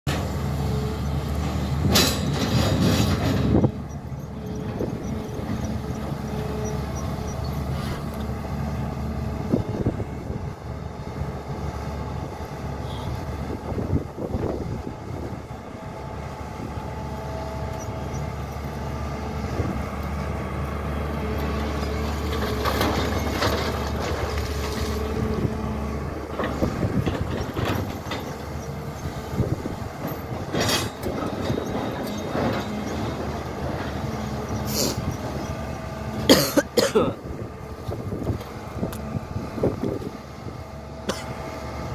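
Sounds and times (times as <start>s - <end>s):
diesel engine under load: 0.1s - 41.9s.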